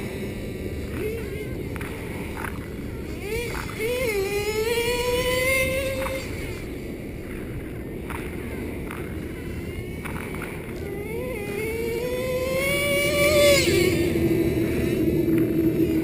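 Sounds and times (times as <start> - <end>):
toy truck engine whining: 0.0 - 16.0.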